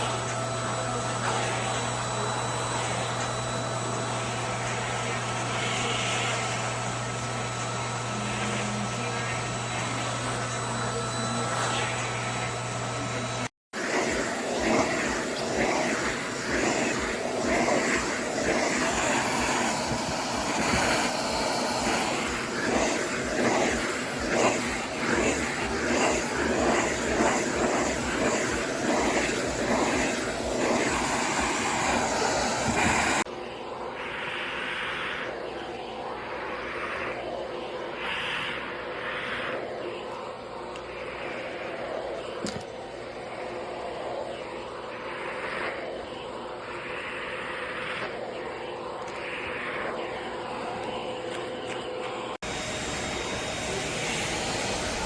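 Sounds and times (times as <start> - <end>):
grooming vacuum motor humming: 0.0 - 55.0.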